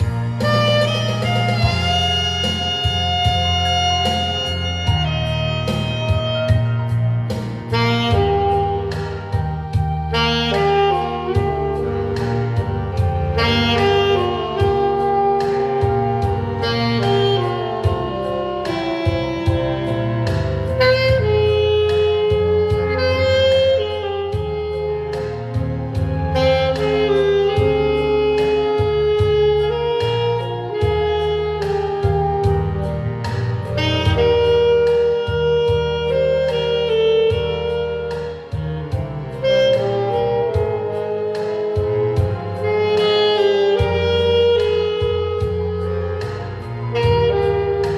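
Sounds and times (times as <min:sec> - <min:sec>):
bass line: 0:00.0 - 0:47.9
saxophone jazzy melody: 0:00.0 - 0:47.9
steady beat: 0:00.0 - 0:47.9.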